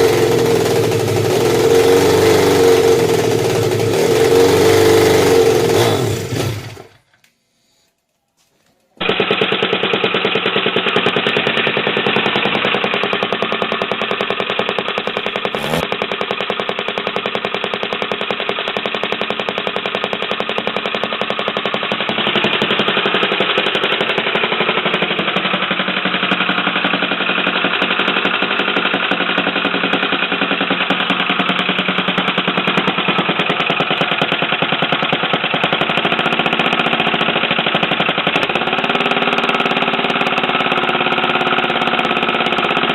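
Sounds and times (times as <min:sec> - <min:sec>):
pit bike engine running: 0:00.0 - 0:07.0, 0:09.0 - 0:42.9.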